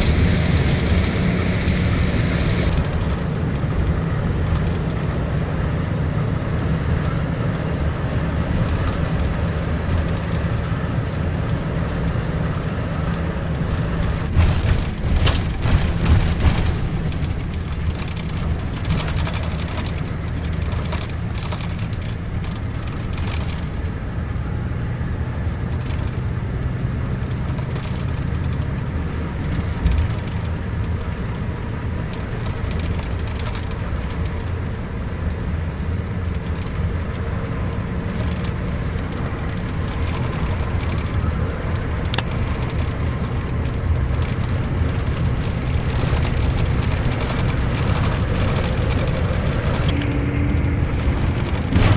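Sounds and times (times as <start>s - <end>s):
coach engine and road drone: 0.0s - 51.9s.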